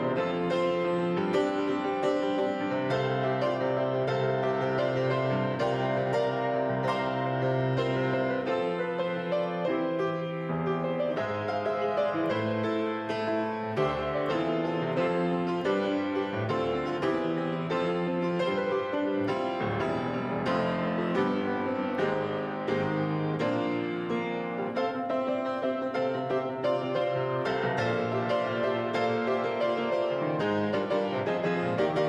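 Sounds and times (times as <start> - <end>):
grand piano playing: 0.0 - 32.0.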